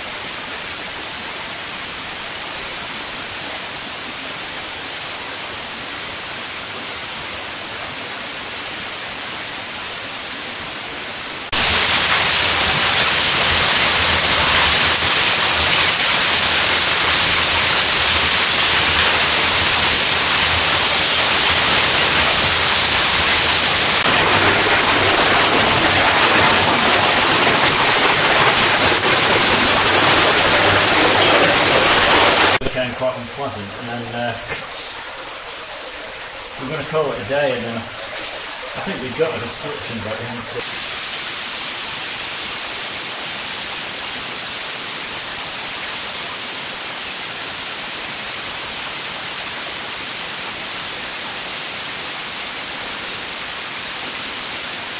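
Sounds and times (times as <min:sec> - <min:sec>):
water rushing in a cave: 0:00.0 - 0:54.9.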